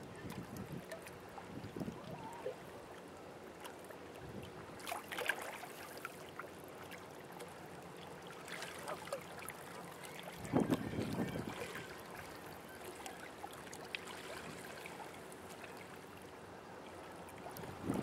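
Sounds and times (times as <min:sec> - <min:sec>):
water splashes: 0:00.0 - 0:18.0
waves lapping at shore: 0:00.0 - 0:18.0.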